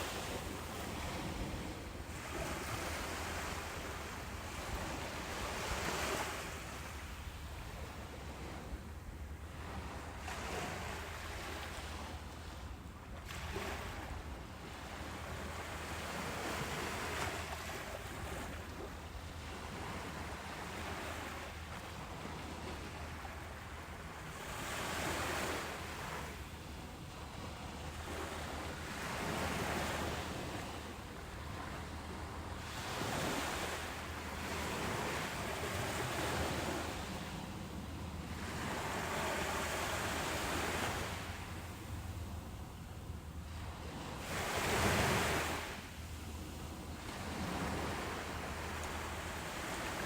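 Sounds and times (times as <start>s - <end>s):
ocean waves breaking: 0.0s - 50.0s.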